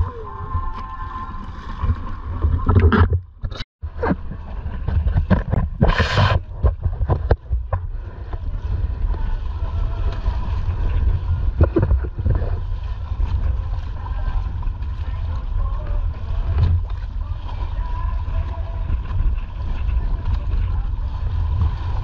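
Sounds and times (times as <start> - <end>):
water splashing against hull: 0.0 - 22.0
wind buffeting microphone: 1.7 - 22.0.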